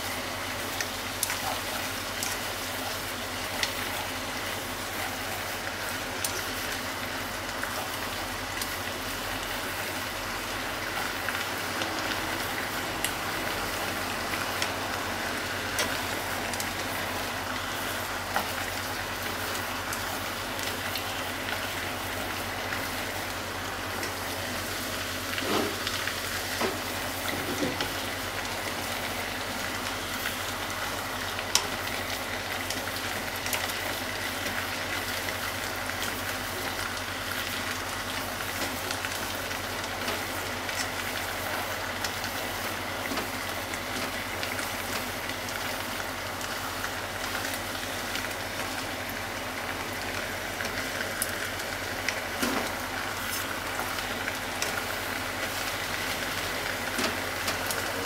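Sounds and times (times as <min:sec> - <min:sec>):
chicken and onion sizzling in pot: 0:00.0 - 0:58.0.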